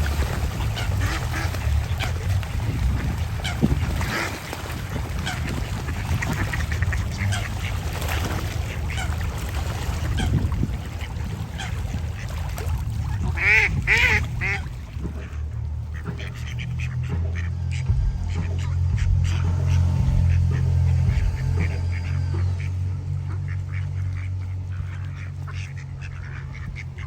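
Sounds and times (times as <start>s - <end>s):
ducks quacking: 0.0s - 27.0s.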